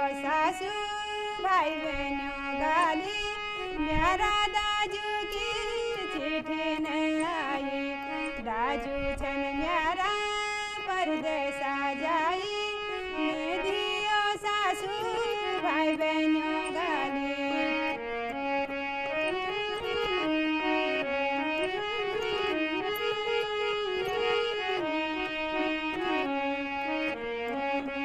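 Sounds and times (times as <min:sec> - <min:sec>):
harmonium playing folk melody: 0:00.0 - 0:28.0.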